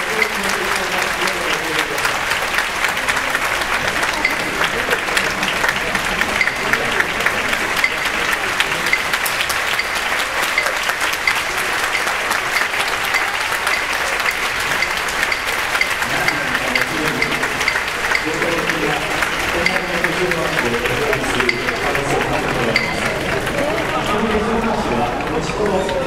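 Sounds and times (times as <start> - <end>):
large audience applauding: 0.0 - 26.0.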